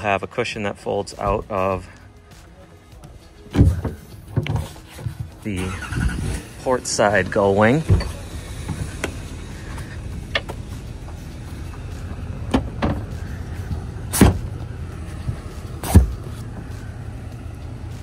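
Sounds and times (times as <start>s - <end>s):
low steady rumble: 3.4s - 18.0s.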